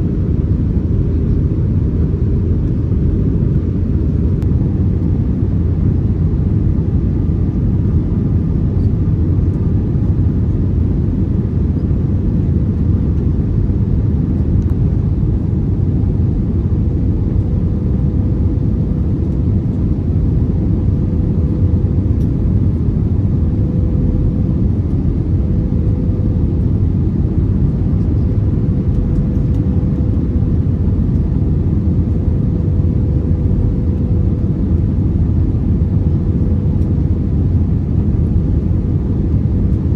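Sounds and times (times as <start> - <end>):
faint steady hum: 0.0 - 39.9
jet engine and airflow rumble: 0.0 - 39.9.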